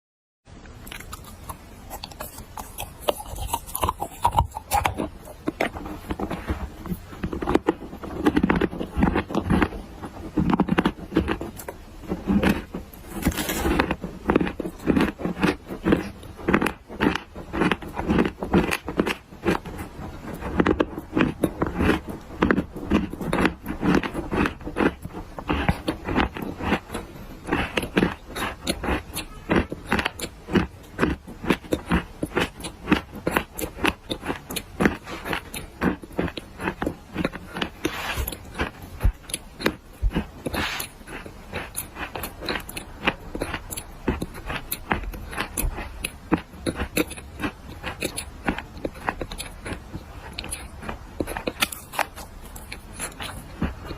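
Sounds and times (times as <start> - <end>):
clay being chewed crunching: 0.7 - 53.9.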